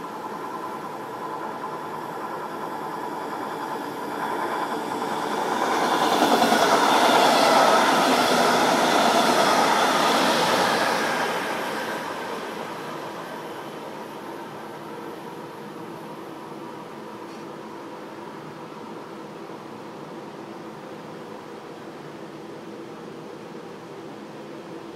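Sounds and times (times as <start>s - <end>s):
train passing at speed: 0.0s - 21.7s.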